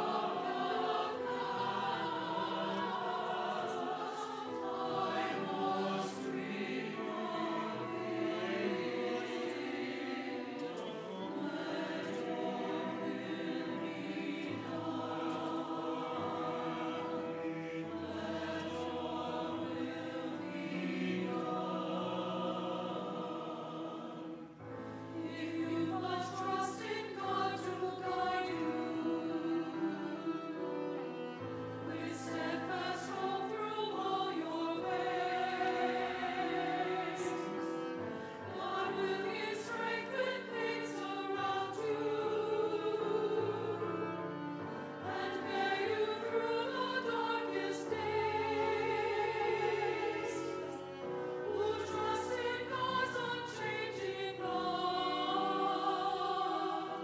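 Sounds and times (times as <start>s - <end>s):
cello: 0.0s - 57.0s
choir singing: 0.0s - 57.0s
keyboard: 0.0s - 57.0s.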